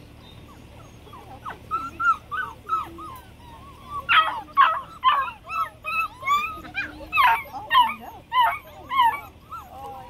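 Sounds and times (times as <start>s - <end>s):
puppies whimpering and yipping: 0.0s - 10.0s.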